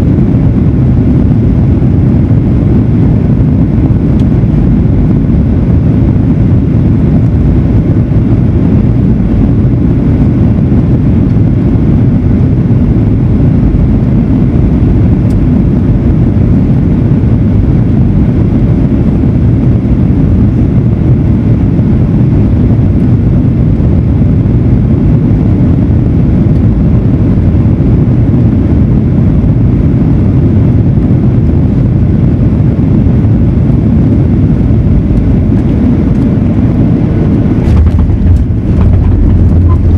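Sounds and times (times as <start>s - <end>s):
jet engine rumble inside cabin: 0.0s - 39.9s.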